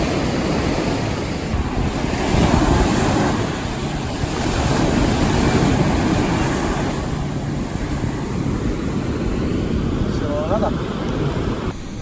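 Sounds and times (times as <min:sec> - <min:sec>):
wind buffeting microphone: 0:00.0 - 0:11.8
surf washing onto beach: 0:00.0 - 0:12.0.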